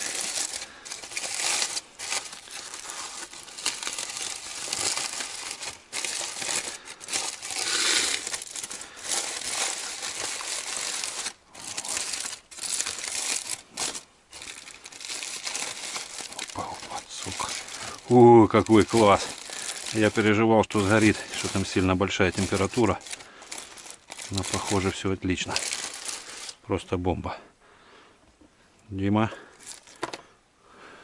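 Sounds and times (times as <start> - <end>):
aluminium foil crinkling: 0.0 - 26.7, 29.4 - 30.2.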